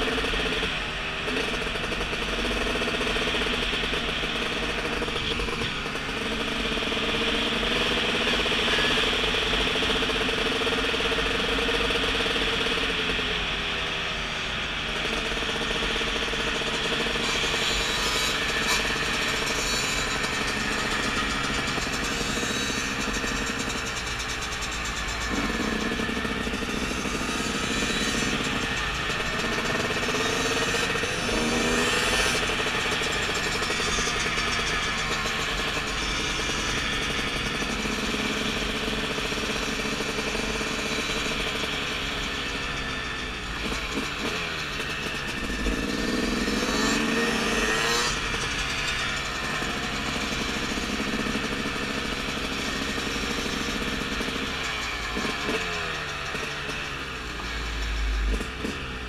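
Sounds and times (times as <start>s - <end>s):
dirt bike engine: 0.0s - 59.0s.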